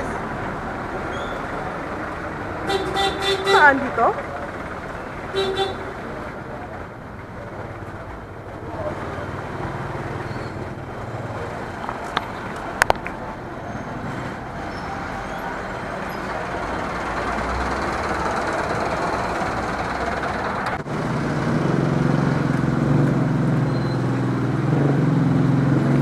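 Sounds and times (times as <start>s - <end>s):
road vehicle rushing: 0.0s - 26.0s.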